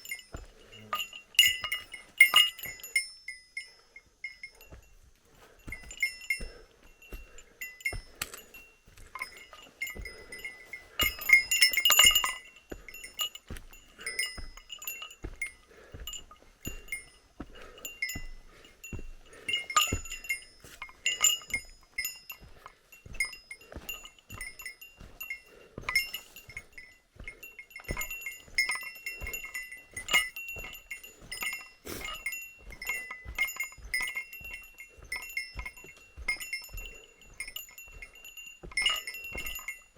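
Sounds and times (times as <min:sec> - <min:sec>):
small metal bell jingling: 0:00.0 - 0:39.9
soft footfalls: 0:04.2 - 0:39.9.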